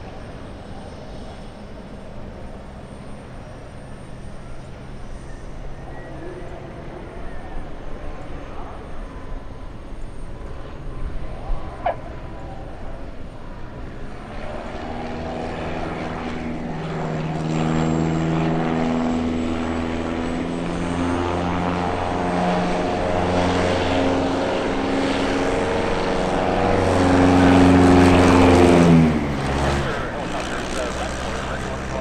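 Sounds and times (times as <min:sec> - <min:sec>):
light plane engine and propeller: 0:00.0 - 0:32.0.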